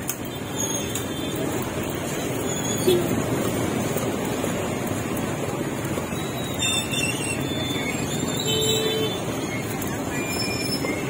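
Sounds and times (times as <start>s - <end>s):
low rumbling street noise: 0.0s - 11.0s.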